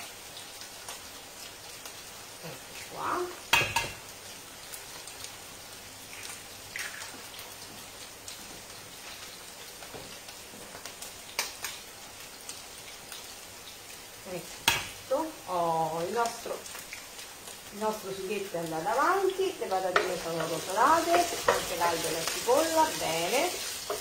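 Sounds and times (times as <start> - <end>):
potatoes sizzling in pan: 0.0 - 24.0.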